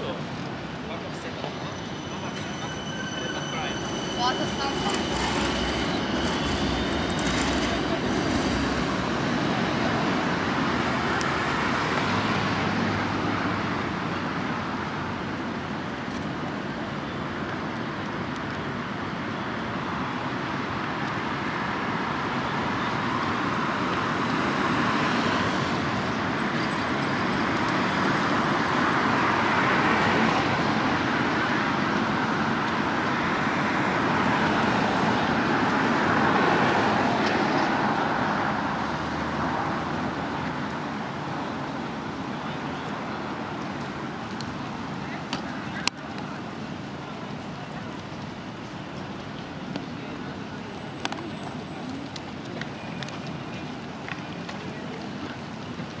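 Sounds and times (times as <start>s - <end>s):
background traffic hum: 0.0s - 56.0s
cars passing close by: 0.0s - 56.0s.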